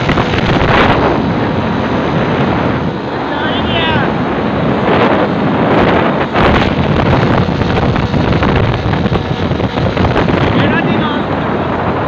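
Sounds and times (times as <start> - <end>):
three-wheeler engine running loudly: 0.0 - 12.0
wind buffeting microphone: 0.0 - 12.0.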